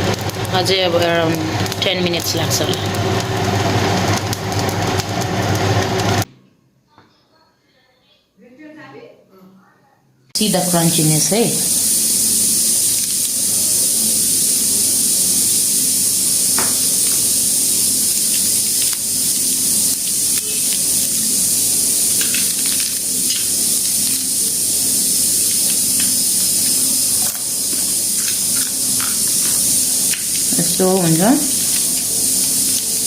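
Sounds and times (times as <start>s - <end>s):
pastries sizzling in oil: 0.0s - 6.3s, 10.4s - 33.0s.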